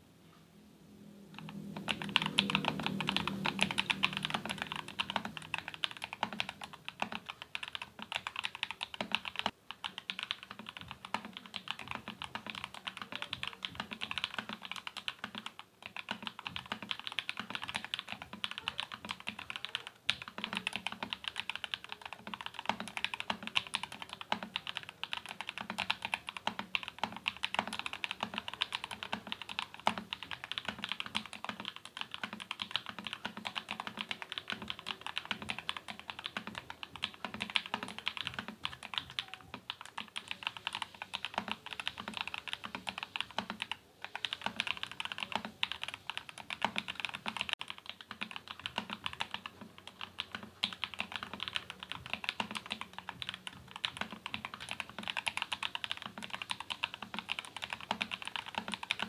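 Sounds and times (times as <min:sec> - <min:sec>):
fast mechanical keyboard typing: 0:01.4 - 0:59.0.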